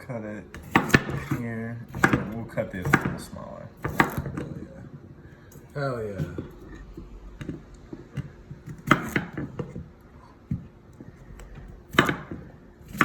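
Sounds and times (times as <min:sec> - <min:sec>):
knife chopping on cutting board: 0:00.5 - 0:04.6, 0:06.2 - 0:13.0.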